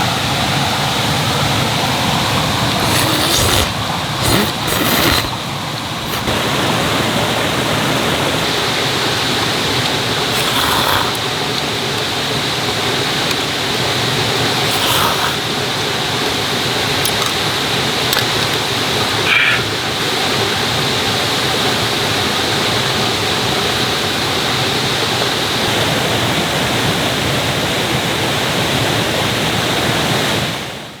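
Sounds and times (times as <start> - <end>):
stream rushing: 0.0 - 30.6.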